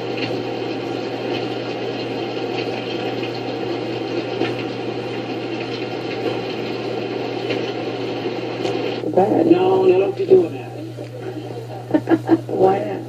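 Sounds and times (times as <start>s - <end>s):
steady noise: 0.0s - 13.0s.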